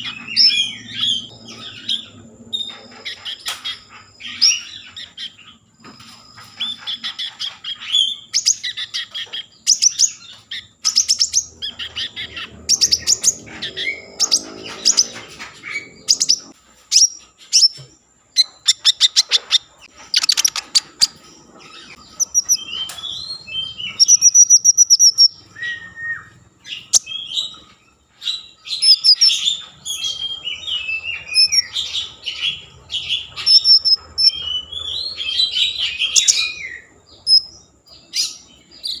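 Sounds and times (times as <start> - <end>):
songbird singing: 0.0 - 39.0.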